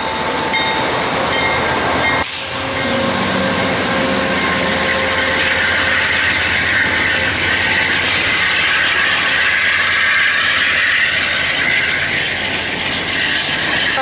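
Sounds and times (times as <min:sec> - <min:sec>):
train cars rolling past: 0:00.0 - 0:14.0
wheel and rail noise: 0:00.0 - 0:14.0.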